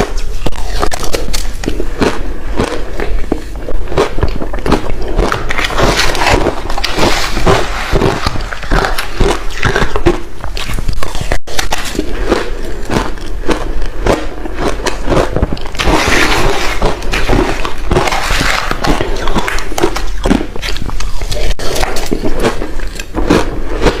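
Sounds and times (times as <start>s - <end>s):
chewing crushed ice: 0.0s - 24.0s.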